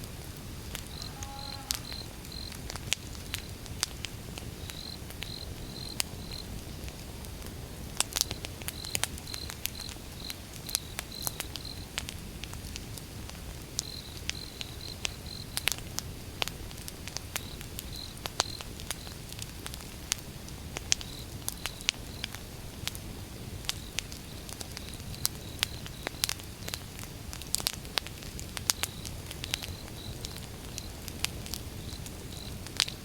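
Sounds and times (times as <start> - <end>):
low rumble of flame: 0.0 - 33.0
wood fire crackling and popping: 0.0 - 33.0.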